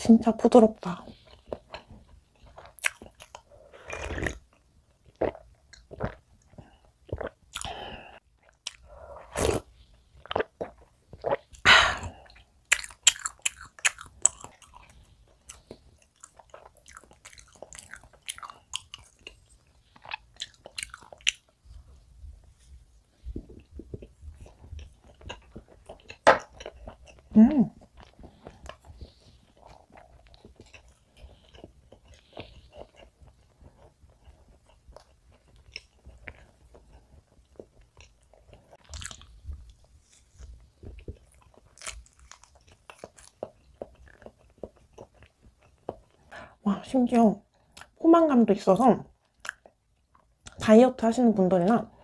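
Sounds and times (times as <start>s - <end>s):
chewing with mouth clicks: 1.1s - 7.7s, 8.4s - 11.6s, 12.2s - 46.4s, 49.2s - 50.6s.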